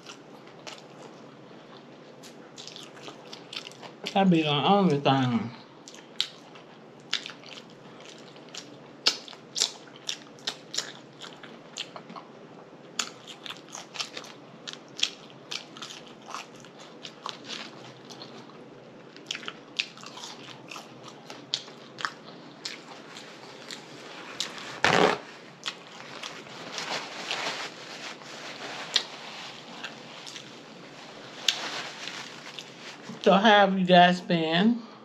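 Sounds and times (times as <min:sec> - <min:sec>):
person chewing food: 0:00.0 - 0:04.0, 0:05.8 - 0:12.3, 0:12.9 - 0:33.1.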